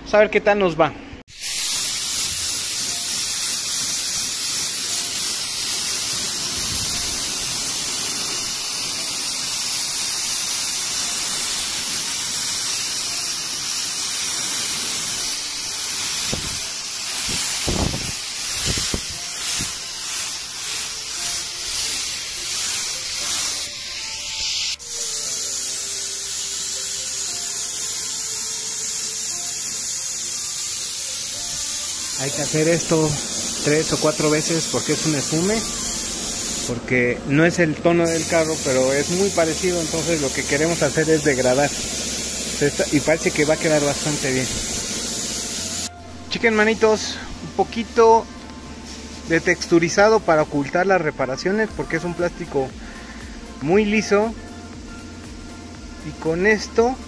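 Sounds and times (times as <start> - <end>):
paint spray gun hissing: 1.3 - 57.0.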